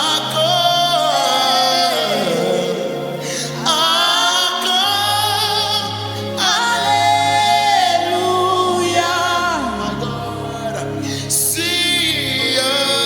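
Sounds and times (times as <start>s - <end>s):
person singing gospel: 0.0s - 13.0s.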